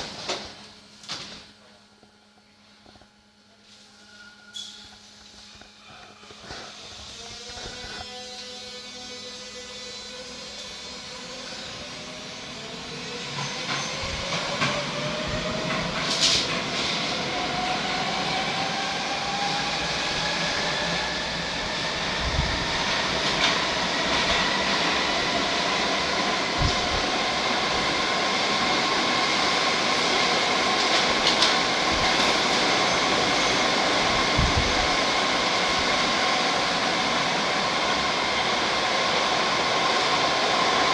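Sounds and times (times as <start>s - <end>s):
train running noise: 0.0s - 40.9s
train motor whine: 2.0s - 40.9s.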